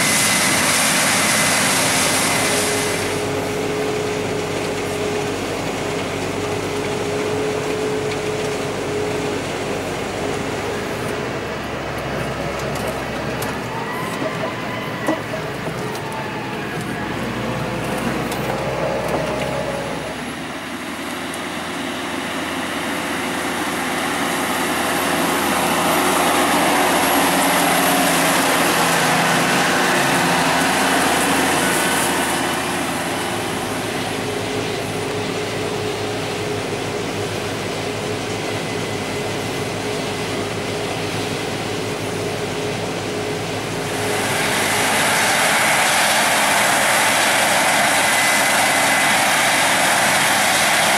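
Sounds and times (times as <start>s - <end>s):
farm machinery engines running: 0.0s - 50.9s.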